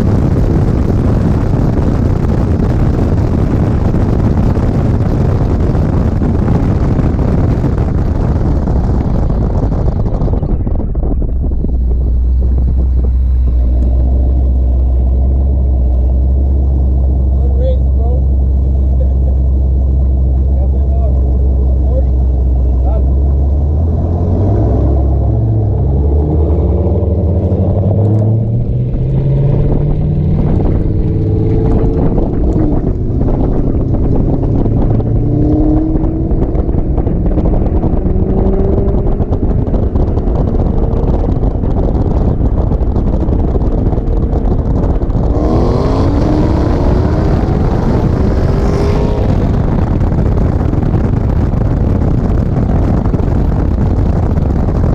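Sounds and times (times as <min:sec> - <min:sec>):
car engine accelerating: 0:00.0 - 0:54.9
wind and road noise: 0:00.0 - 0:54.9.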